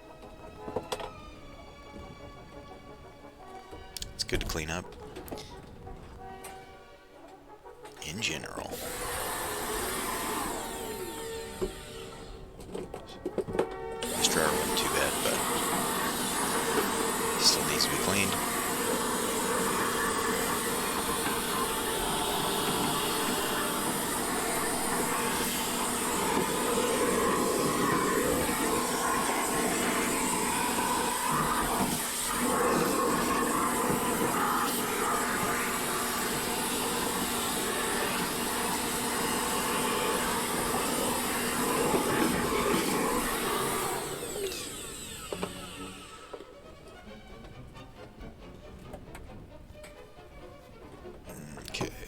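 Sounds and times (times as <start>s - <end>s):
vacuum cleaner running: 0.0s - 5.5s, 8.4s - 46.8s.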